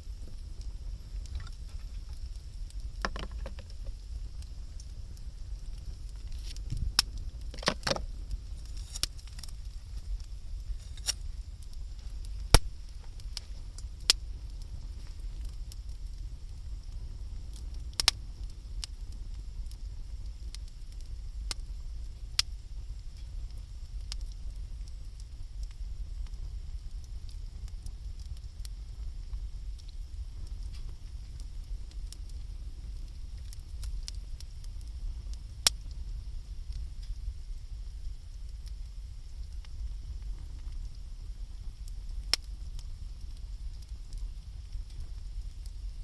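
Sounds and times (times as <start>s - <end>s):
campfire crackling and popping: 0.0s - 46.0s
steady low rumble: 0.0s - 46.0s.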